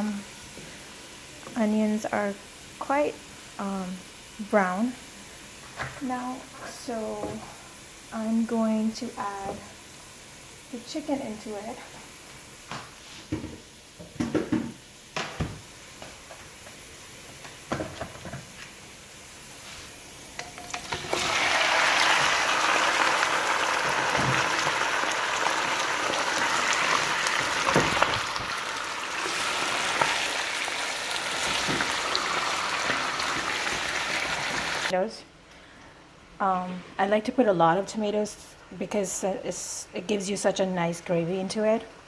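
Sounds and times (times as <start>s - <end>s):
chicken sizzling in hot oil: 0.0s - 34.9s.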